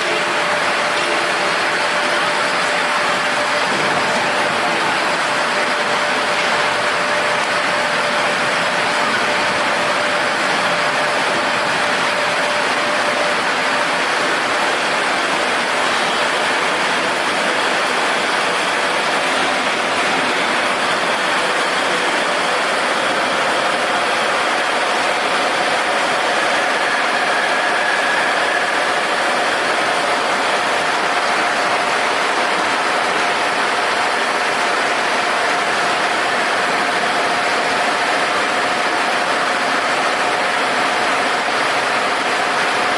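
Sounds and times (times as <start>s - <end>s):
machine rushing hum: 0.0s - 42.9s.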